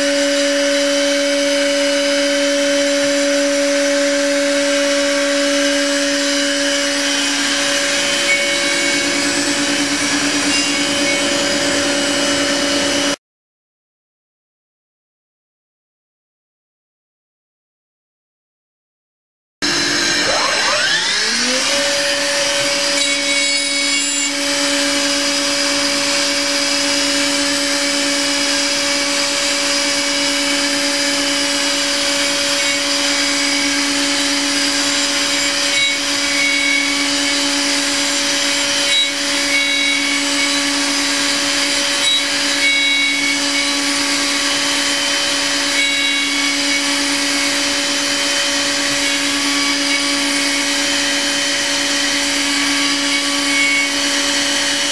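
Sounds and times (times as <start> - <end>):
mill spindle whine: 0.0 - 13.2, 19.6 - 54.9.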